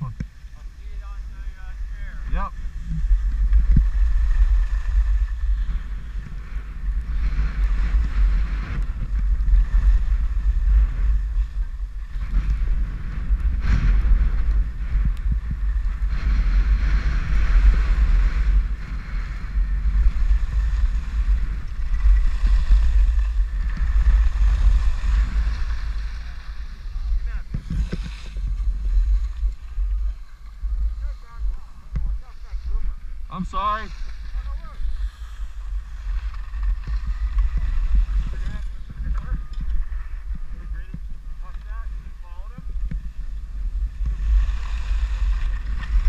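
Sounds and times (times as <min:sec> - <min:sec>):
skis carving on snow: 0:00.0 - 0:46.0
wind buffeting microphone: 0:00.0 - 0:46.0.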